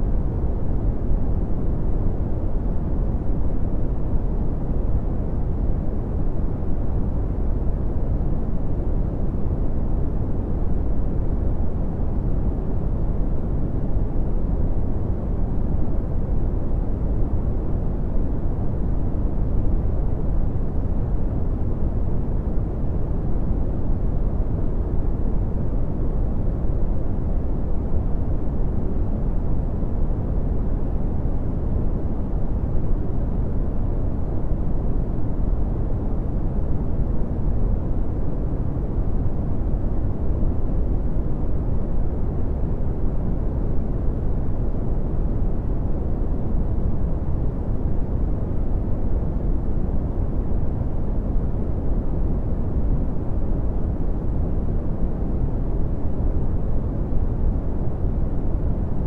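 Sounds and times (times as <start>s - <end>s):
low rushing brown noise: 0.0s - 59.0s.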